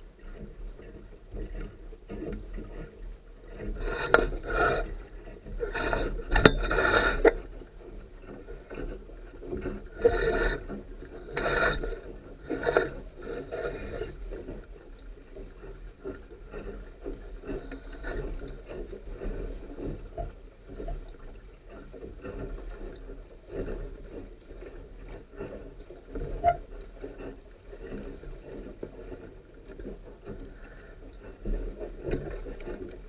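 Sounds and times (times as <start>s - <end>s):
water slapping along a hull: 0.0s - 33.0s.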